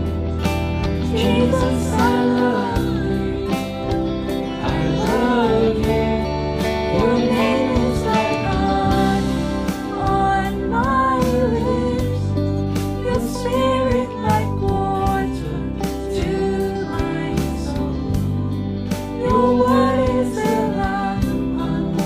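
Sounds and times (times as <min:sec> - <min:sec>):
instrumental accompaniment with beat: 0:00.0 - 0:22.0.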